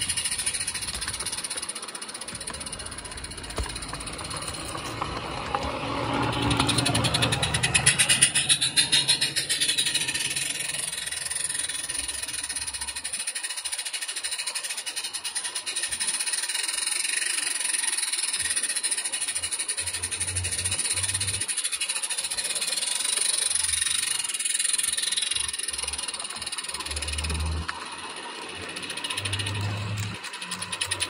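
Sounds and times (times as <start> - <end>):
steam model locomotive exhaust beats: 0.0 - 31.0.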